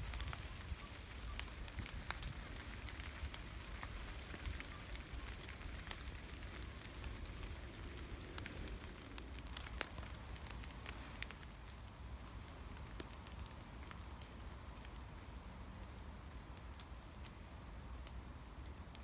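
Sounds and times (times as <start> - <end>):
raindrops ticking: 0.0 - 19.0
soft rain hiss: 0.0 - 19.0.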